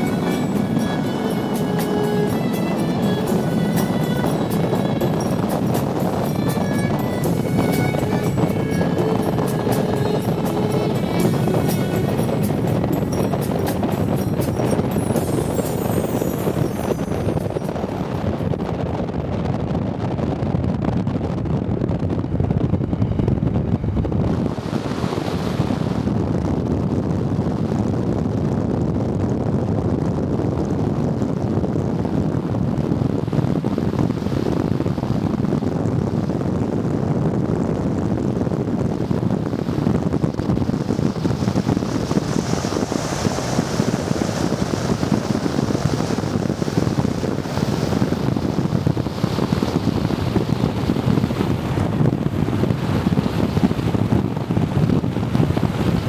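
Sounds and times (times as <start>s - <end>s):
moving vehicle rumble: 0.0s - 56.0s
wind blowing on microphone: 0.0s - 56.0s.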